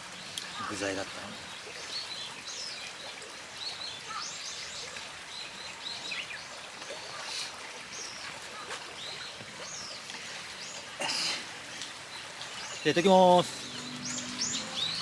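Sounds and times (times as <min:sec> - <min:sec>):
flowing river water: 0:00.0 - 0:15.0
small birds chirping: 0:00.1 - 0:15.0.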